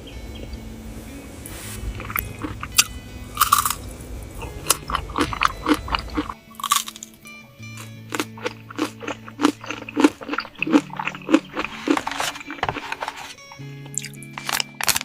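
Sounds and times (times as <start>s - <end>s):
low steady hum: 0.0s - 15.0s
crisp crunches and clicks: 1.9s - 7.2s, 7.8s - 15.0s.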